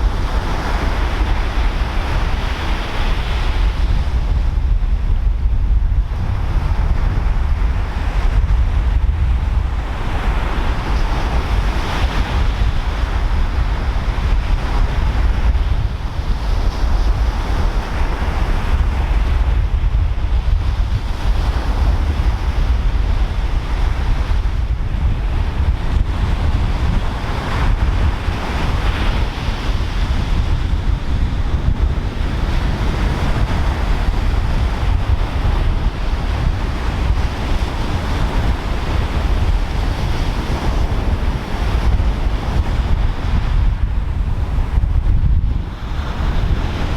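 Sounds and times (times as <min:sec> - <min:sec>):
surf breaking on shore: 0:00.0 - 0:46.9
wind rumbling on microphone: 0:00.0 - 0:46.9.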